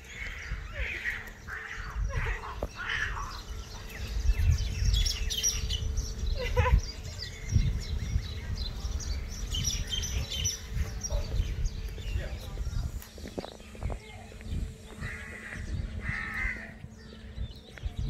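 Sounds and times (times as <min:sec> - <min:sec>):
low rumble: 0:00.0 - 0:18.0
small birds chirping: 0:00.0 - 0:18.0.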